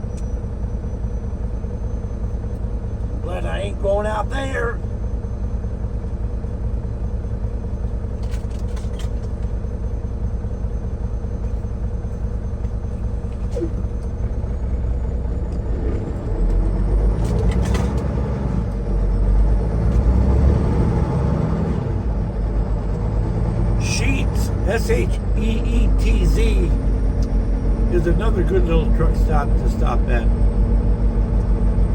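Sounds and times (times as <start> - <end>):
truck engine and road noise: 0.0 - 31.9.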